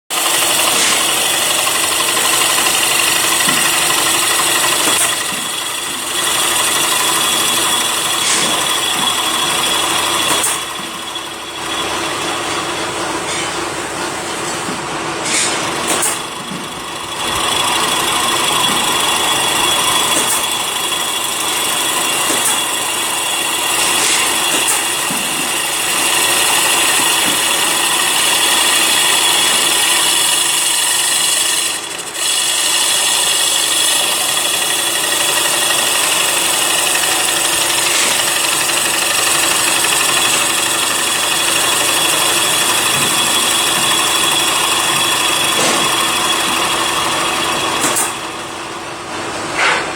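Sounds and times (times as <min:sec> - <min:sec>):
cutter hissing on spinning wood: 0:00.1 - 0:13.6, 0:15.2 - 0:48.8
lathe machine whine: 0:00.1 - 0:49.9.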